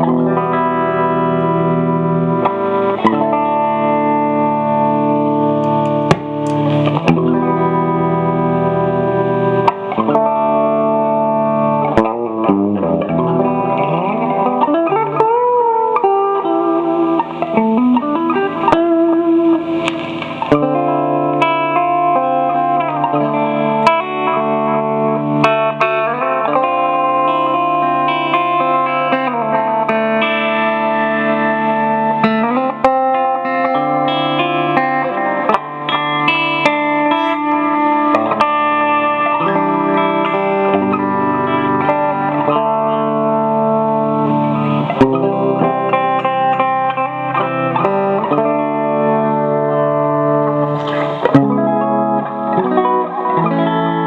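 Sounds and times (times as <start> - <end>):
clean electric guitar with delay echoes: 0.0 - 54.0
guitar string bends: 0.0 - 54.0.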